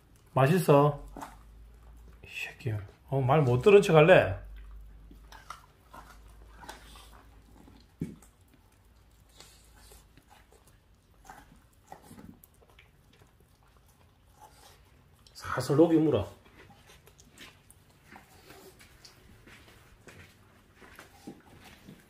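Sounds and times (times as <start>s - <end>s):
dog chewing raw meat: 0.0s - 22.0s.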